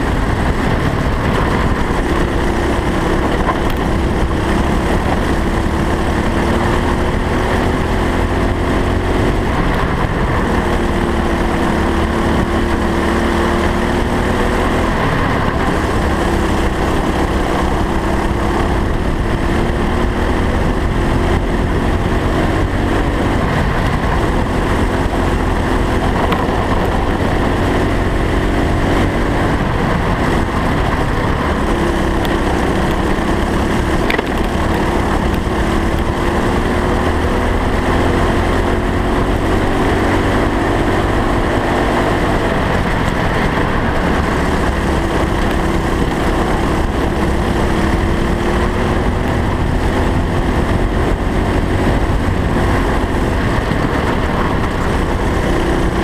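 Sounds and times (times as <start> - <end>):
go-kart engine running: 0.0 - 56.0
heavy low rumble: 0.0 - 56.0.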